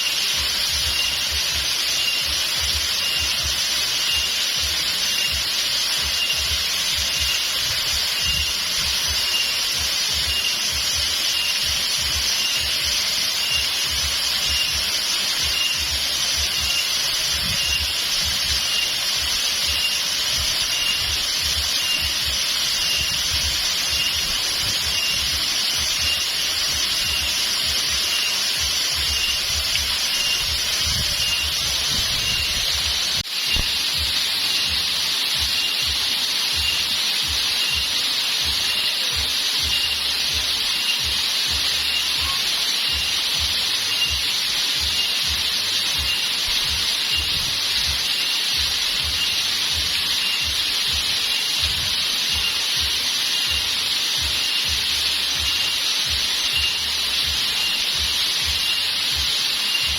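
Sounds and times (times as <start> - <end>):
high chirp: 0.0 - 59.9
waterfall rushing: 0.0 - 59.9.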